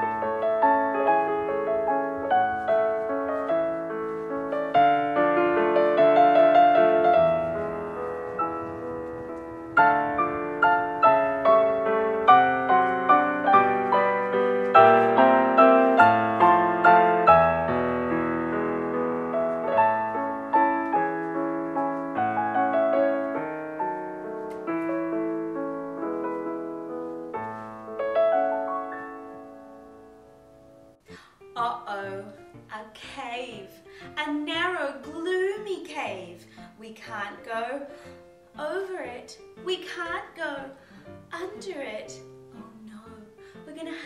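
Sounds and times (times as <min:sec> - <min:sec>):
solo piano music: 0:00.0 - 0:32.7, 0:33.3 - 0:44.0.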